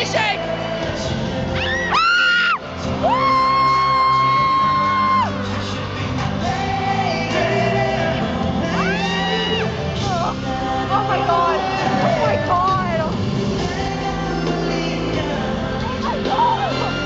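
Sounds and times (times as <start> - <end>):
loud pop concert music: 0.0 - 17.0.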